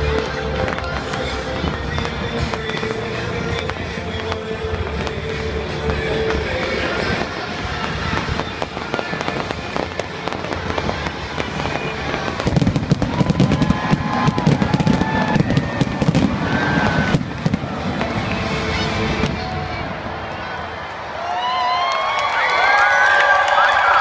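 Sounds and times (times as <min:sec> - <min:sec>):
fireworks bangs and crackles: 0:00.0 - 0:20.5
music: 0:00.0 - 0:20.9.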